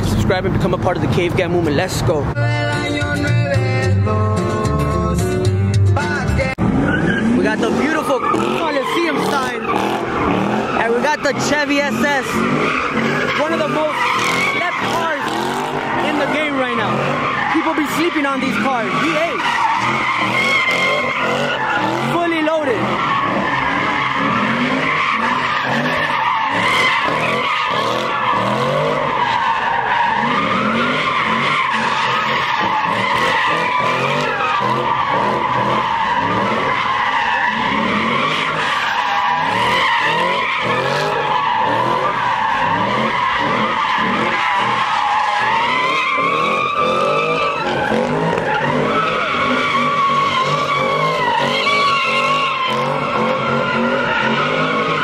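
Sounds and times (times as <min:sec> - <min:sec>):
car engine revving: 0:00.0 - 0:55.0
tyres squealing: 0:06.4 - 0:55.0.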